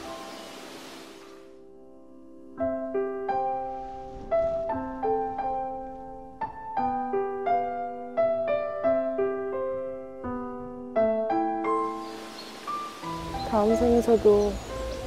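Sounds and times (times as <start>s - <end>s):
slow tender piano music: 0.0s - 15.0s.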